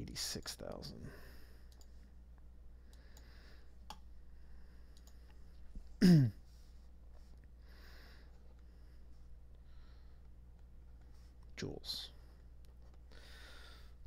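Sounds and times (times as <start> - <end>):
soft breaths: 0.9 - 14.0.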